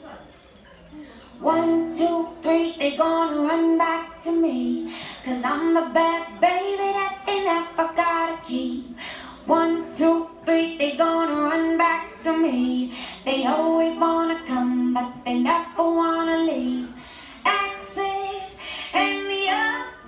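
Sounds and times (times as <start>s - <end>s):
high singing voice: 1.4s - 20.0s.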